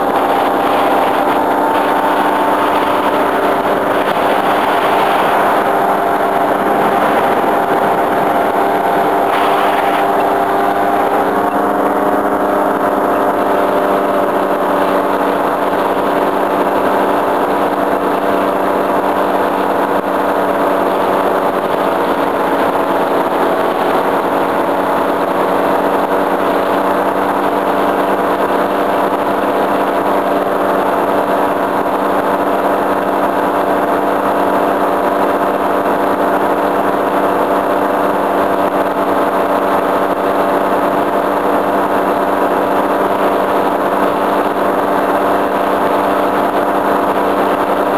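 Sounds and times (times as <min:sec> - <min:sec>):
paramotor engine and propeller: 0:00.0 - 0:47.9.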